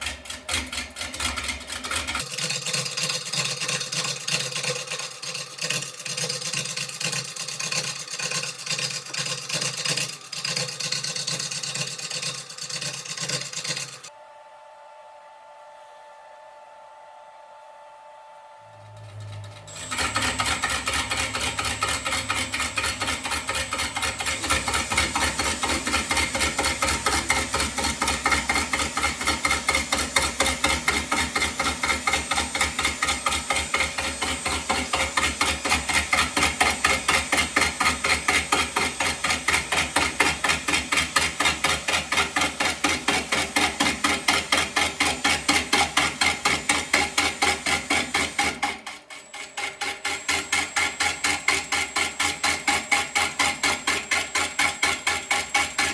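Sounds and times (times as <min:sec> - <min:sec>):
lathe cutter knocking on wood: 0:00.0 - 0:14.1, 0:19.0 - 0:55.9.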